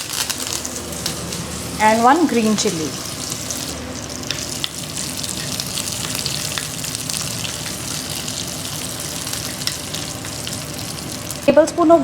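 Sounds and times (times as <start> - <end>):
sharp crackles of frying: 0.0 - 12.0
spices sizzling in hot oil: 0.0 - 12.0.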